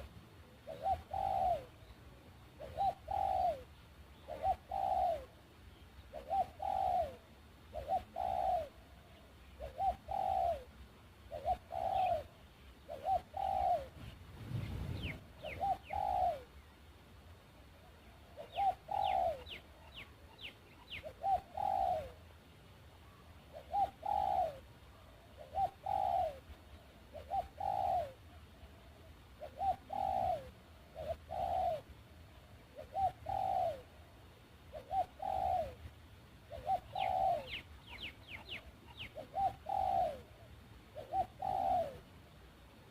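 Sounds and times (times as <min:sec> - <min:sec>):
dove cooing: 0:00.0 - 0:16.7, 0:17.7 - 0:22.4, 0:23.0 - 0:42.9
small birds chirping: 0:00.0 - 0:42.1.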